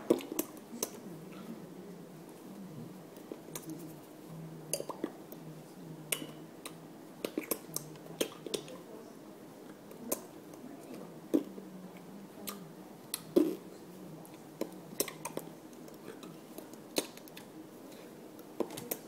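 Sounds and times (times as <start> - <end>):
faint low room hum: 0.0 - 19.0.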